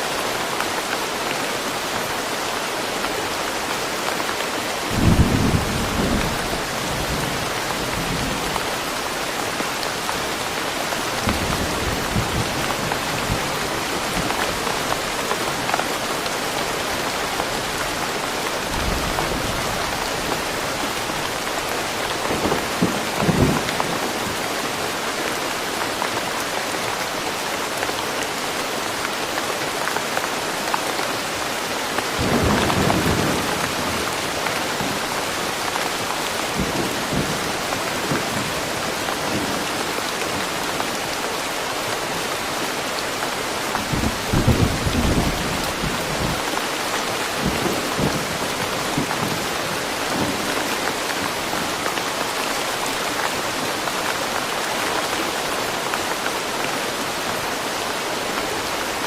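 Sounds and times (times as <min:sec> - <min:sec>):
heavy rain falling in forest: 0:00.0 - 0:59.0.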